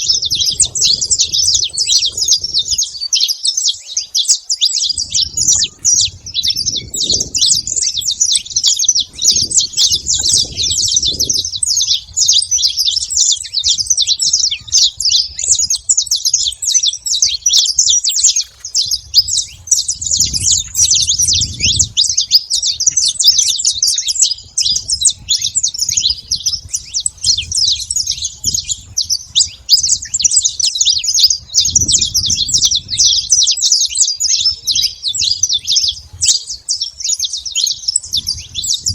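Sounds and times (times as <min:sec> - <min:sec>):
flock of finches chirping: 0:00.0 - 0:38.9.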